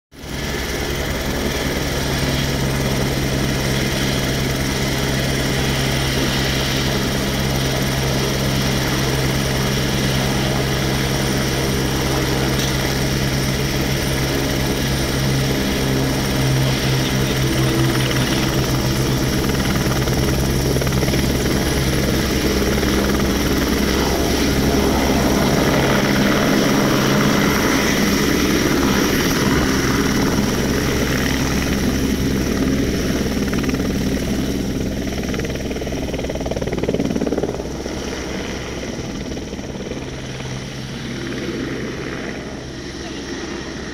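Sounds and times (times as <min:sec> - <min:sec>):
helicopter rotor beat: 0:00.2 - 0:43.9
high turbine whine: 0:00.2 - 0:43.9.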